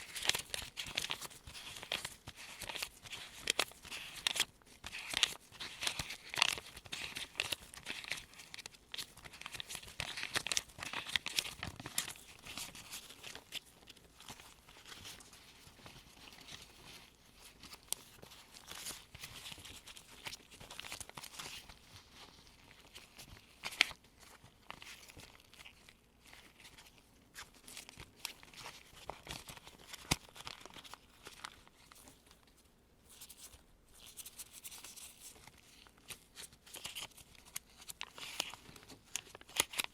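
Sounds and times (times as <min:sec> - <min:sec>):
paper bills rustling and flicking: 0:00.0 - 0:32.2, 0:33.1 - 0:39.9.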